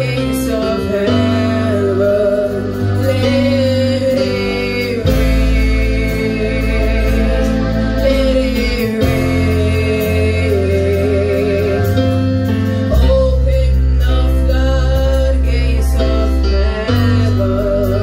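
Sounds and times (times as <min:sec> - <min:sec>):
women singing into microphones: 0:00.0 - 0:12.3, 0:12.9 - 0:18.0
band of keyboard and guitar: 0:00.0 - 0:18.0
held bass notes: 0:00.0 - 0:18.0.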